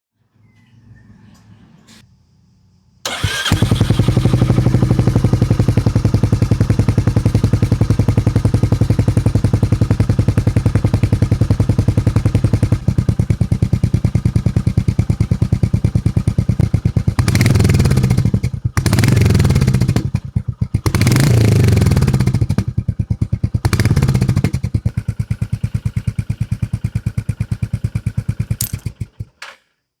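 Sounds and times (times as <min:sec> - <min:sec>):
motorcycle engine idling and revving: 0:03.1 - 0:29.6.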